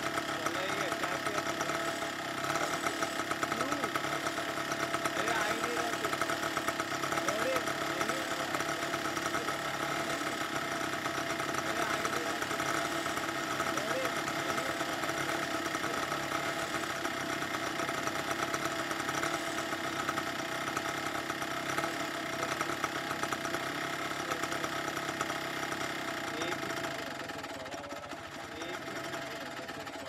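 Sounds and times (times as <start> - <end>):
small engine droning: 0.0 - 30.0.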